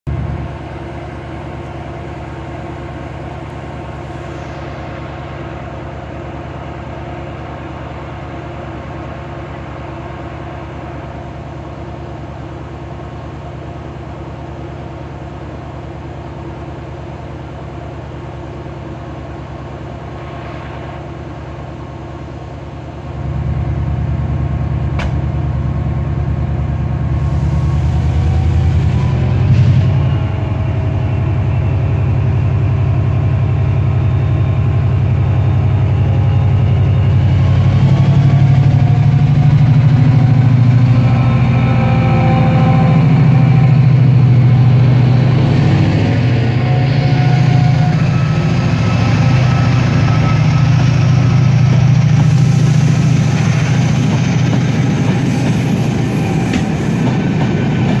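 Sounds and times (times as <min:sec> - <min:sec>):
diesel locomotive engine idling: 0:00.1 - 0:58.0.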